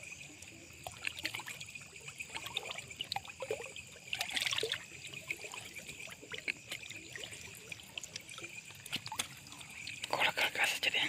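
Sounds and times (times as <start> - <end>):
shallow water splashing: 0.0 - 10.6.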